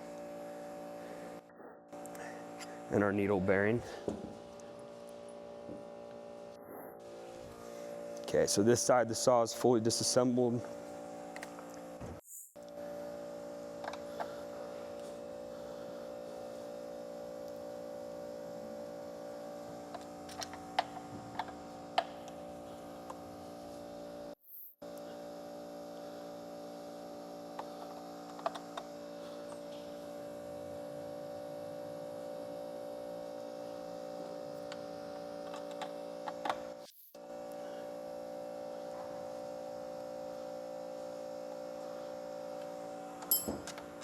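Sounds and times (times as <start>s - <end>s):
steady hum with fixed tones: 0.0s - 44.0s.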